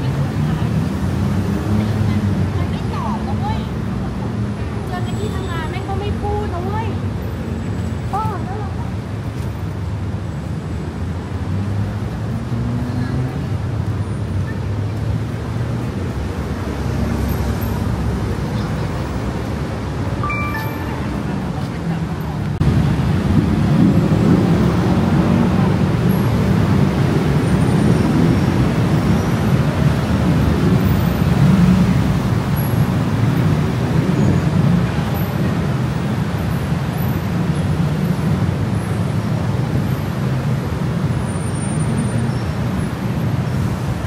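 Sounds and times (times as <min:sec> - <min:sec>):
cars and motorbikes passing: 0:00.0 - 0:44.0.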